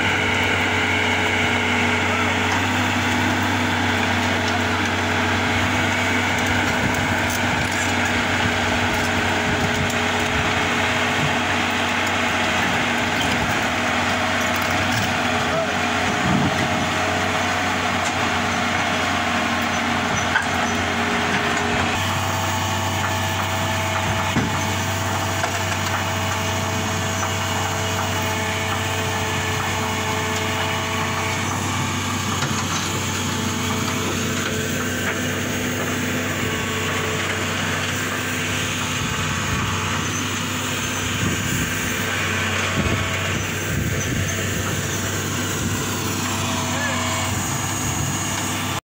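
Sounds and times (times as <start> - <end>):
excavator diesel engine running: 0.0 - 48.8.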